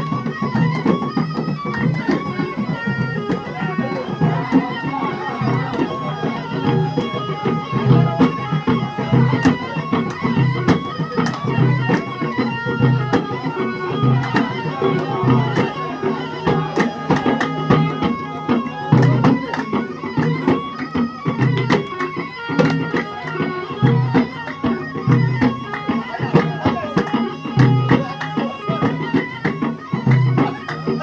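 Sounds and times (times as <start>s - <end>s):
hand percussion strokes: 0.0s - 31.0s
reedy wind instrument melody: 0.0s - 31.0s
repeating drum beat: 0.0s - 31.0s.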